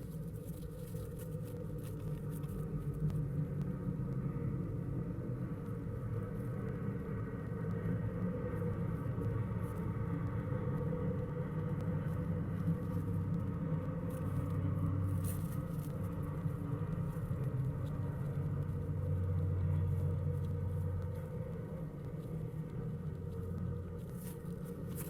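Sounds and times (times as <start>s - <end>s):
mechanical hum and rumble: 0.0s - 25.0s.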